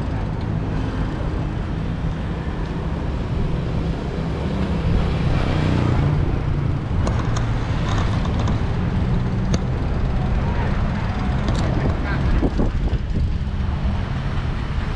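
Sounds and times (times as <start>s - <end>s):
road noise: 0.0s - 14.9s
vehicle engine running: 0.0s - 14.9s.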